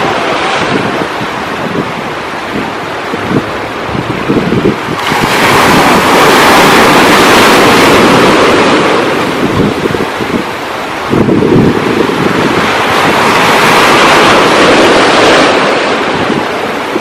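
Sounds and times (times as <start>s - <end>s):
sea wave breaking: 0.0s - 17.0s
wind buffeting microphone: 0.0s - 17.0s.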